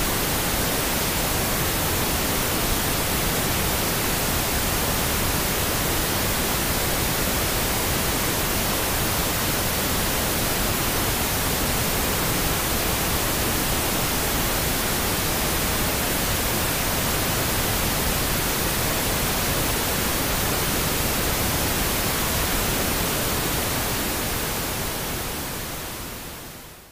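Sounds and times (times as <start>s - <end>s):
steady pink noise hiss: 0.0s - 26.9s.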